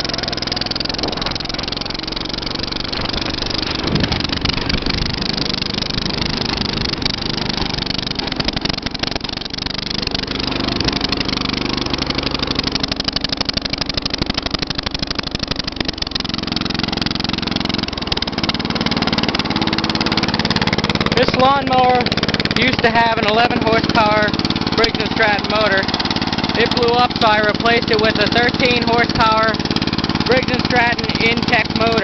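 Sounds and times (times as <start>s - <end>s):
lawn tractor engine running: 0.0s - 32.0s.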